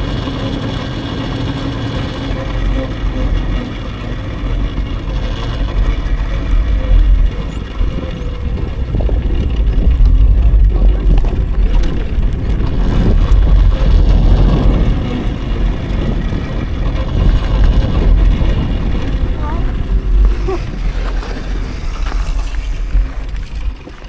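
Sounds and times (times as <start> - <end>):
tyre noise: 0.0 - 24.0
wind buffeting microphone: 0.0 - 24.0.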